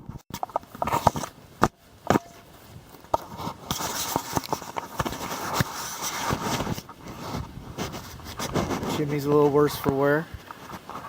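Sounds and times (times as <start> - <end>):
rustling hiss: 0.5 - 11.0.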